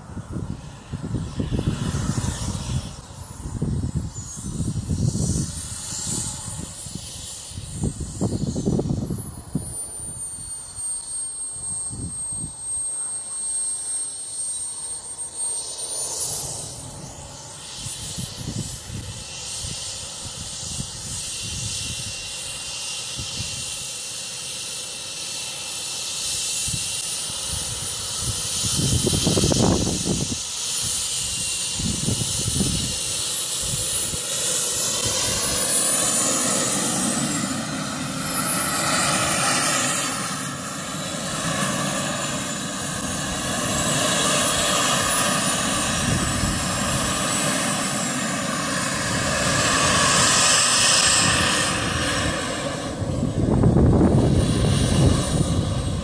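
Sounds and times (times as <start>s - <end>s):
model jet turbine whine: 0.0s - 56.0s.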